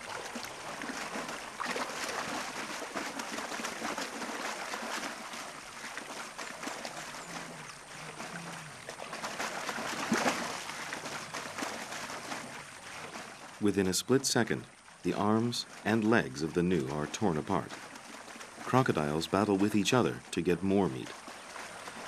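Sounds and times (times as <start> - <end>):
crocodiles thrashing in water: 0.0 - 20.3
water splashes: 0.0 - 22.0.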